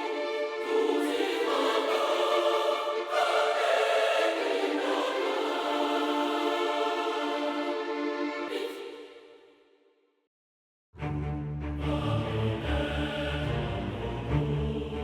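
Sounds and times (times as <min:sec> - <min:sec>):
orchestral strings: 0:00.0 - 0:09.1, 0:11.0 - 0:15.0
choir singing sustained chords: 0:00.0 - 0:09.5, 0:11.6 - 0:15.0.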